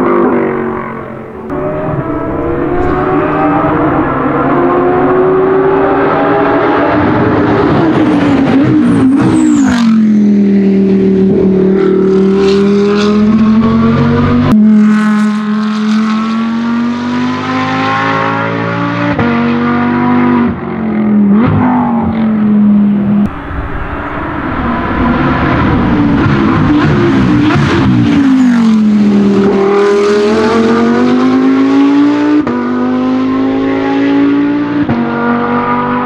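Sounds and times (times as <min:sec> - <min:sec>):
race car engine at high revs: 0:00.0 - 0:36.0.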